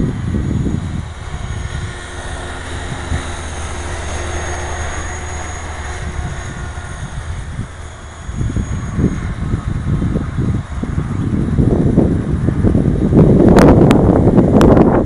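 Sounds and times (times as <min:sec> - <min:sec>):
small aircraft engine drone: 0:00.0 - 0:15.0.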